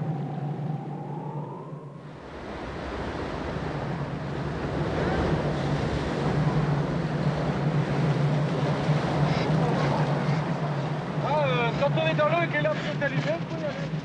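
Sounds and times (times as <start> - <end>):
blizzard wind: 0.0 - 14.0
rough sea: 0.0 - 14.0.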